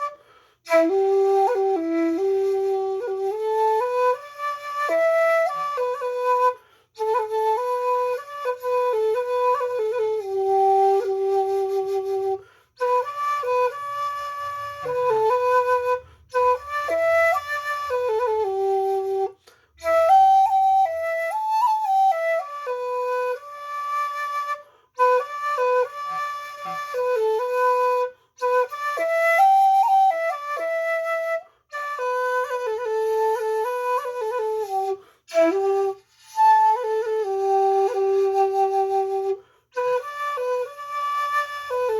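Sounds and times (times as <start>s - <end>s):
shakuhachi flute melody: 0.0s - 41.9s.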